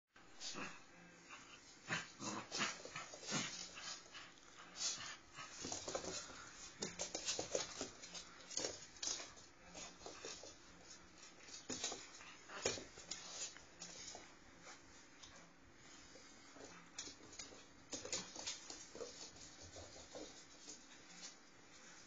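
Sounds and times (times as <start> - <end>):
puppy claws on wooden floor: 2.5 - 15.4, 16.0 - 22.0.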